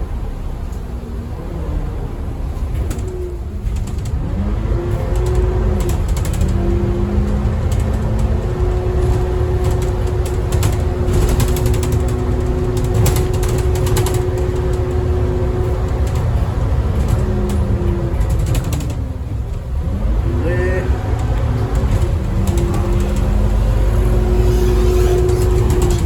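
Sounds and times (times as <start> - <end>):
bus body rattles and clicks: 0.0 - 26.0
bus engine drone with whine: 0.0 - 26.0.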